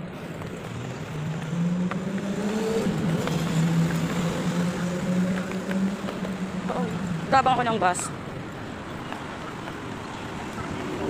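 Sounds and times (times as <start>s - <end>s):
street traffic: 0.0s - 11.0s
vehicle engine humming: 0.0s - 11.0s.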